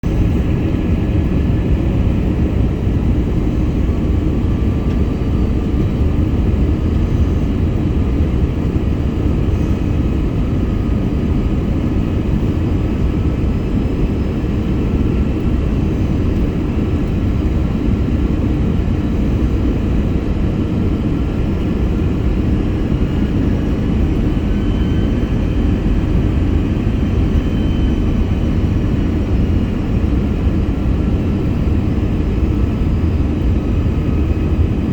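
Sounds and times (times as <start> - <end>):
airplane cabin rumble: 0.0 - 34.9
faint engine whine: 0.0 - 34.9.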